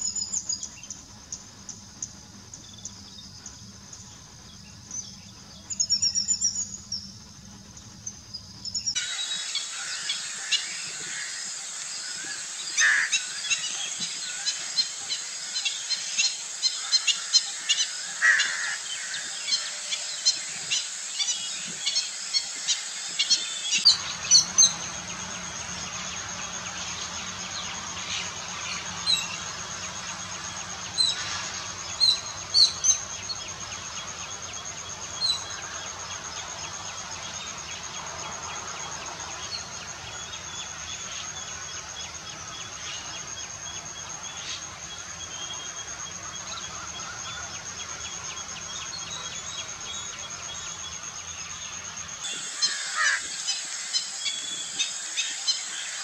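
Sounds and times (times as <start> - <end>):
low hiss: 0.0 - 56.0
high-pitched insect buzz: 8.0 - 56.0.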